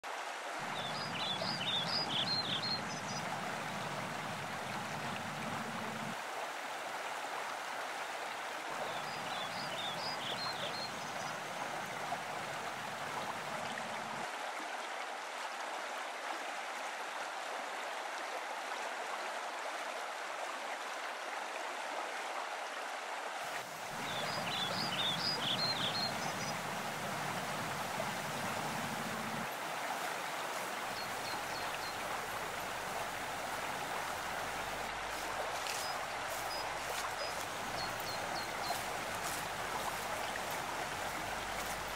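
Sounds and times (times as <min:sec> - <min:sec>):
stream water running: 0:00.0 - 0:41.9.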